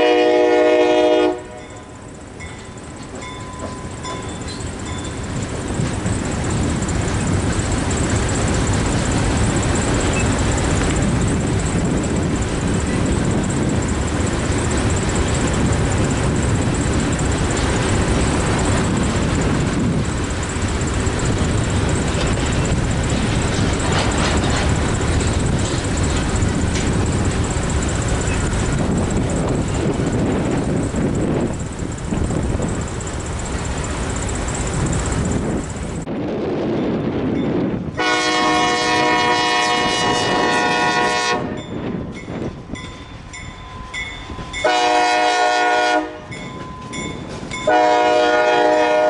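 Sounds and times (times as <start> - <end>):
freight train rumbling past: 0.0 - 49.0.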